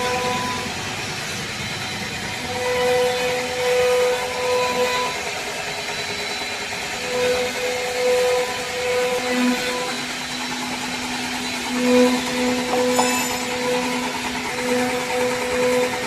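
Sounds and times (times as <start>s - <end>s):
electric motor whirring: 0.0s - 16.0s.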